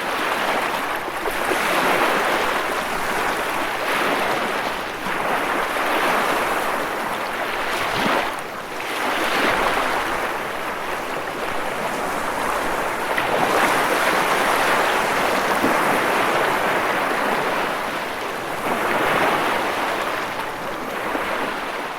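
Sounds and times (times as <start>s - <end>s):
ocean waves breaking: 0.0s - 21.9s.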